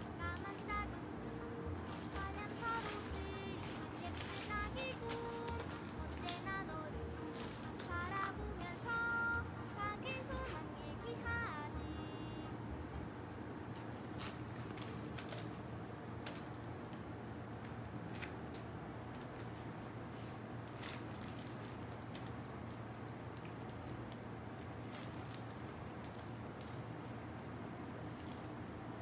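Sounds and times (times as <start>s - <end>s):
soft crinkles and clicks: 0.0s - 9.4s, 13.7s - 27.2s, 28.0s - 28.6s
low room hum: 0.0s - 29.0s.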